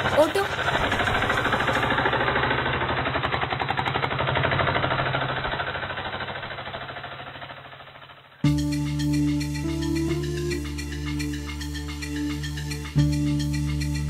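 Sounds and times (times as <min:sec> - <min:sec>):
auto rickshaw engine chugging: 0:00.0 - 0:14.0.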